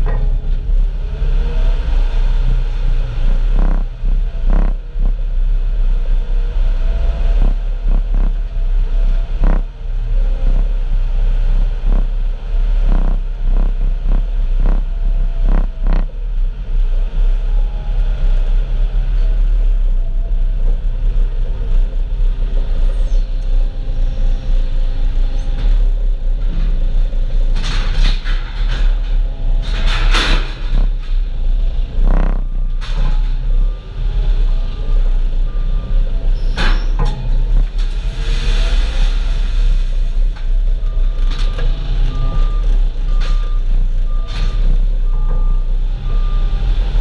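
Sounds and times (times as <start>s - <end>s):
farm machinery engine rumbling: 0.0s - 47.0s.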